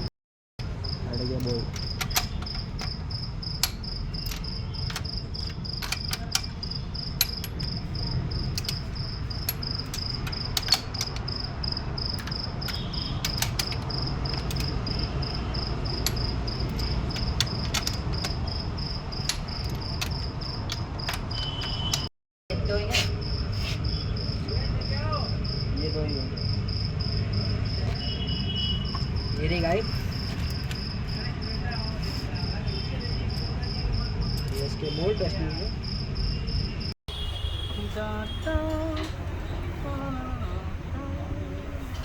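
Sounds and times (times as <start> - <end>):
cricket chirping: 0.0 - 42.0.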